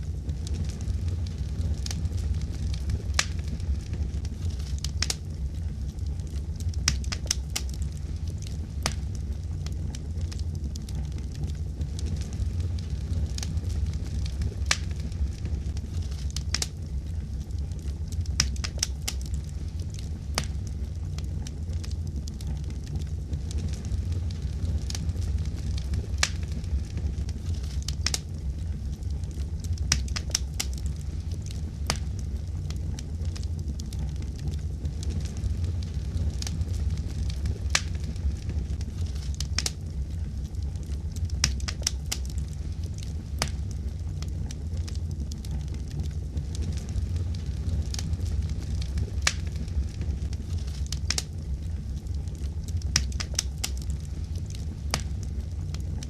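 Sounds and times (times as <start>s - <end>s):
fire crackling and popping: 0.0s - 56.0s
low rumble: 0.0s - 56.0s.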